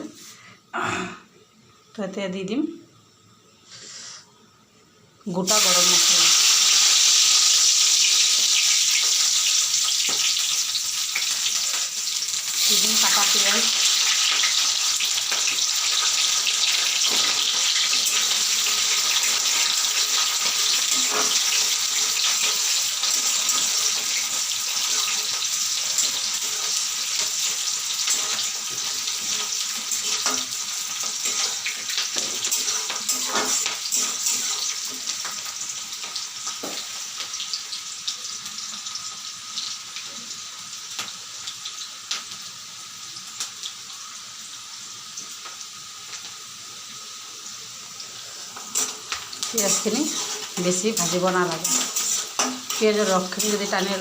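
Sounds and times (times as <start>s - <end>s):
onions sizzling in oil: 5.2s - 54.0s.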